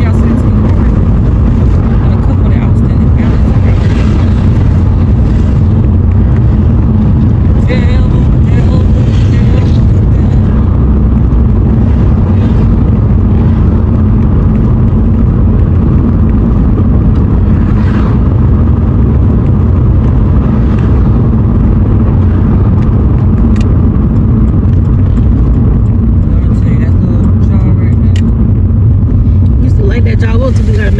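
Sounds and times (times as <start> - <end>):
car engine and tyres rumbling: 0.0 - 30.9.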